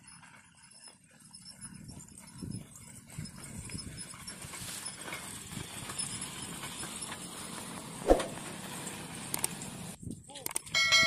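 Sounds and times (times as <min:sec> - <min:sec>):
cart rattling: 0:00.0 - 0:10.0.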